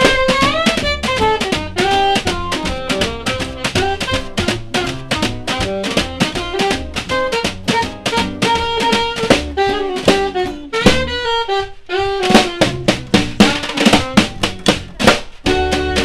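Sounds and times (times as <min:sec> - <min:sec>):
saxophone melody: 0:00.0 - 0:16.0
snare drum: 0:00.0 - 0:16.0
upright bass: 0:00.0 - 0:16.0.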